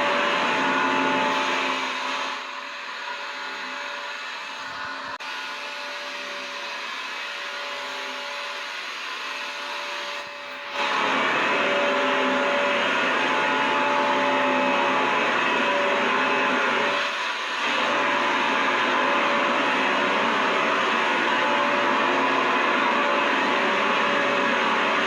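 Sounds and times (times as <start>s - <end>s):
vacuum cleaner motor running: 0.0s - 25.0s.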